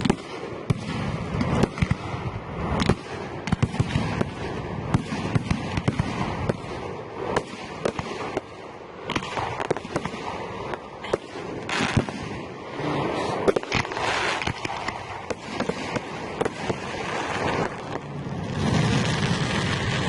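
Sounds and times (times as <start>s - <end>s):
fireworks banging: 0.0s - 20.0s
fireworks crackling: 0.0s - 20.0s.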